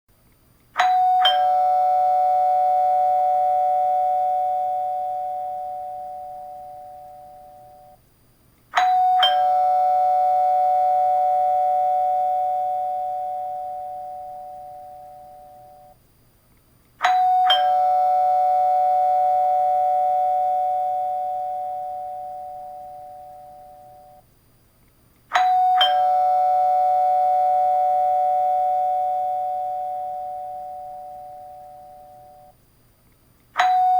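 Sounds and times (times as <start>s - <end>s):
two-note doorbell chime: 0.8s - 8.0s, 8.7s - 16.0s, 17.0s - 24.2s, 25.3s - 32.6s, 33.6s - 33.9s.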